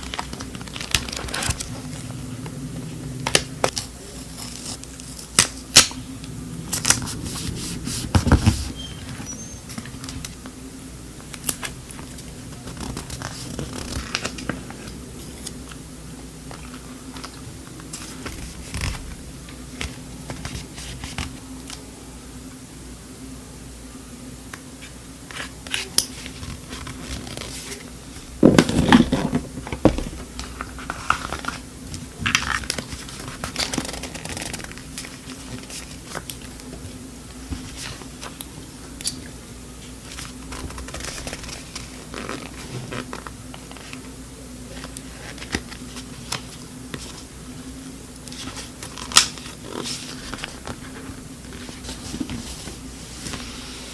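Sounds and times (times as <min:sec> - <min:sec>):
paper crinkling and rustling: 0:00.0 - 0:06.0, 0:06.7 - 0:10.6, 0:11.2 - 0:15.8, 0:16.4 - 0:21.9, 0:25.3 - 0:47.4, 0:48.2 - 0:53.9
steady low hum: 0:00.0 - 0:53.9.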